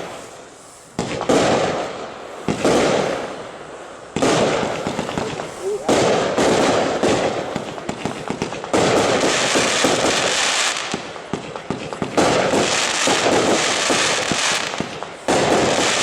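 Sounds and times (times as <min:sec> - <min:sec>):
firework cake crackling pops: 0:00.0 - 0:16.0.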